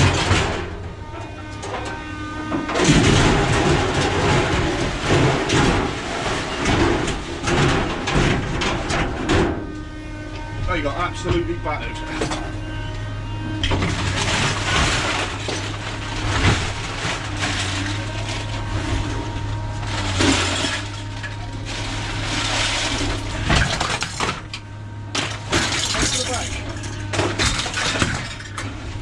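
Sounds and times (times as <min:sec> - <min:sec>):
scrap metal clattering and crashing: 0:00.0 - 0:10.2, 0:11.0 - 0:12.9, 0:13.6 - 0:29.0
low engine hum: 0:00.0 - 0:29.0.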